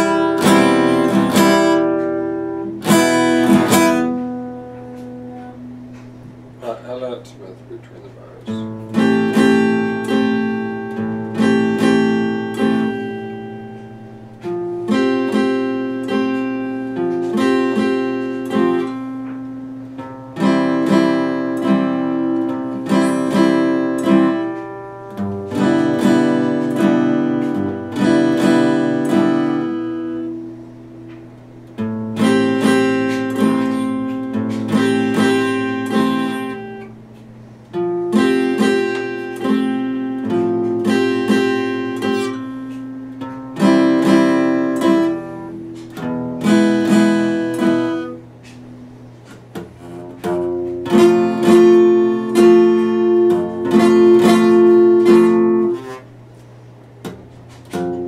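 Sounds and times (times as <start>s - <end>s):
acoustic guitar chords picked: 0.0s - 58.0s.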